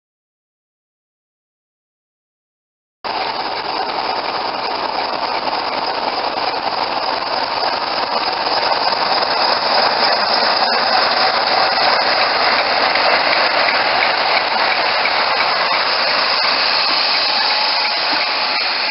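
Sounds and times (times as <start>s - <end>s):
diesel train running: 3.1s - 18.9s.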